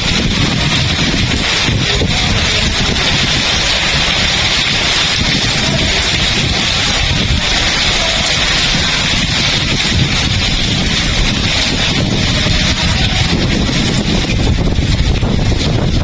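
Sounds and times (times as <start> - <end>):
heavy rain hissing: 0.0 - 16.0
wind buffeting microphone: 0.0 - 16.0.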